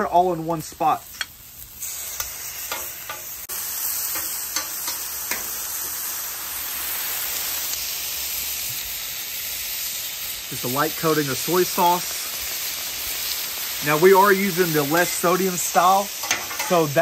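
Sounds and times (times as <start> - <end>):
chicken sizzling on a griddle: 0.0 - 17.0.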